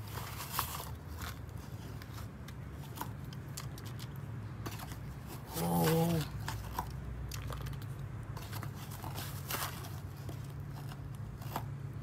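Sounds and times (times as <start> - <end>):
hands handling cardboard box: 0.0 - 6.9, 8.4 - 11.8.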